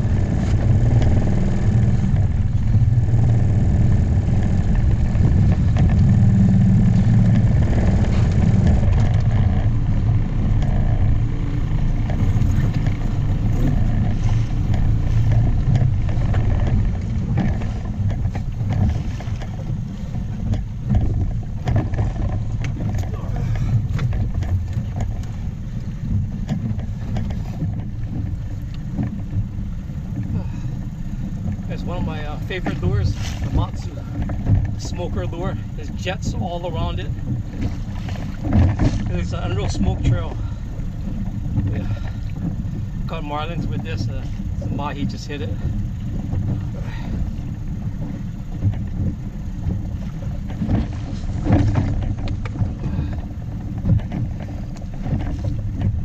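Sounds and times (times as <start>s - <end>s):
boat engine low rumble: 0.0s - 56.0s
wind buffeting microphone: 0.0s - 56.0s
faint clicks and knocks: 6.9s - 30.4s, 31.2s - 56.0s.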